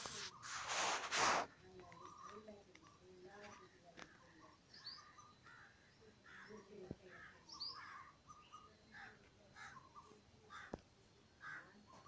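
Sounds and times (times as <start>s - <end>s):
faint birds calling: 0.0s - 12.0s.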